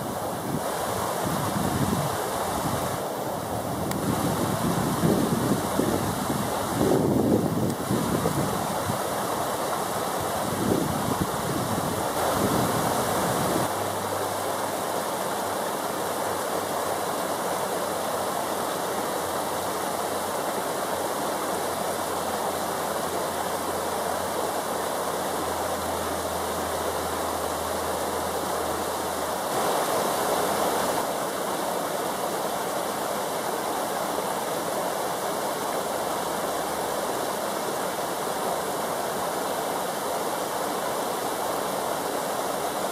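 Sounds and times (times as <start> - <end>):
river water rushing over rocks: 0.0 - 42.9.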